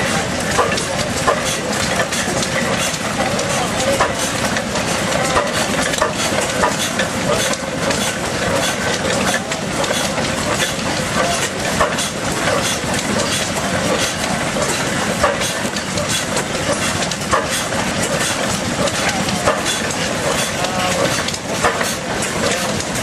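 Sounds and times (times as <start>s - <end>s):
stationary engine clattering: 0.0s - 23.0s.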